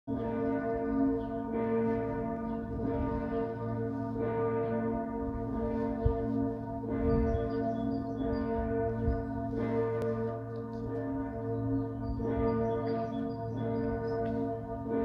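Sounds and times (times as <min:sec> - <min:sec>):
church bells ringing: 0:00.1 - 0:15.0.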